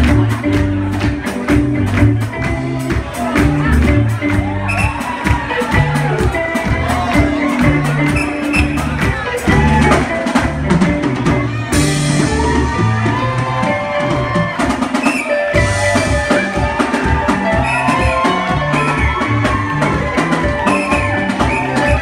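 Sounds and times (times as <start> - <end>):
bass guitar: 0.0 - 22.0
drum kit beat: 0.0 - 22.0.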